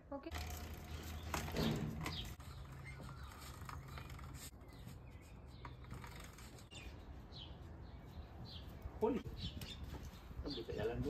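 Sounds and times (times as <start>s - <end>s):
birds chirping faintly: 0.2s - 11.0s.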